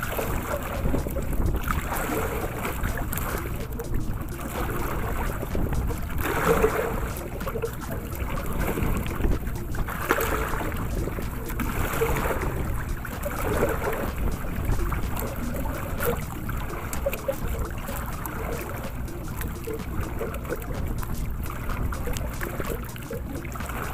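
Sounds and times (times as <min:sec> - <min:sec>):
faint ticks: 0:00.0 - 0:23.9
water lapping against canoe: 0:00.0 - 0:23.9
wind buffeting microphone: 0:00.0 - 0:23.9.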